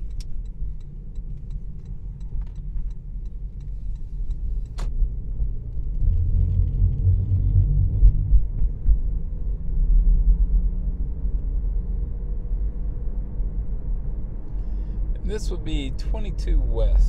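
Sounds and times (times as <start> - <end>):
low road noise: 0.0 - 17.0.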